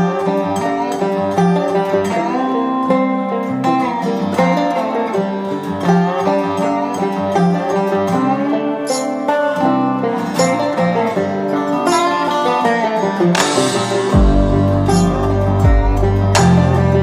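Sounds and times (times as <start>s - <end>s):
upbeat bluegrass music: 0.0s - 17.0s.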